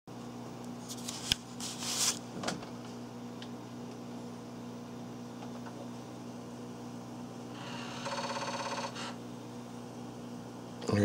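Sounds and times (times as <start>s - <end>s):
low electrical hum: 0.1s - 11.0s.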